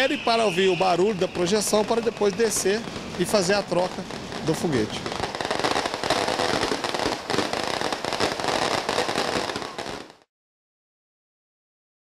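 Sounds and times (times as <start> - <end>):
fireworks crackling and banging: 0.0 - 10.3.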